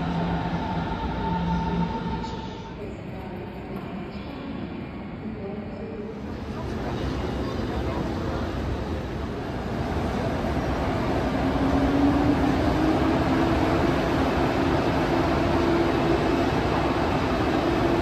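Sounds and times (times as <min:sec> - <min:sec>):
rail rumble: 0:00.0 - 0:04.2, 0:06.2 - 0:18.0.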